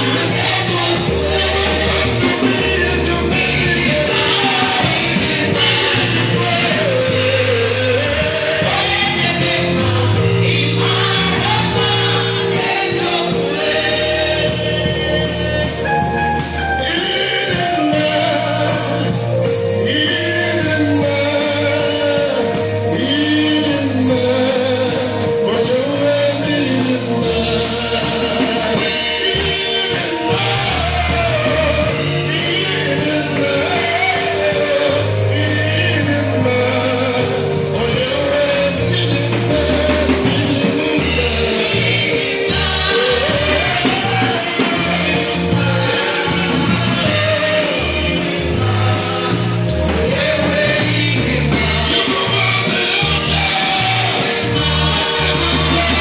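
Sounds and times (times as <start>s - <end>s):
band with bass and drums: 0.0s - 56.0s
gospel choir singing: 0.0s - 56.0s
lead singer: 0.0s - 56.0s.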